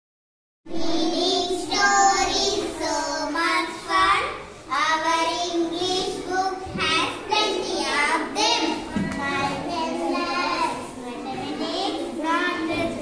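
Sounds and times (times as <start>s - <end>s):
children singing together: 0.7s - 13.0s.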